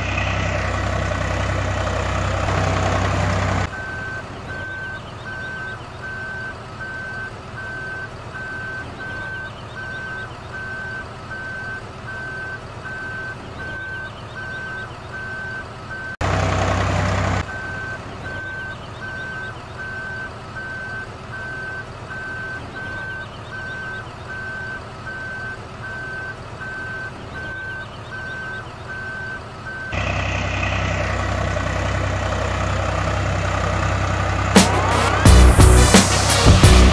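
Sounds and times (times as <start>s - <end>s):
truck engine running: 0.0s - 36.9s
truck reversing alarm beeping: 0.0s - 36.9s.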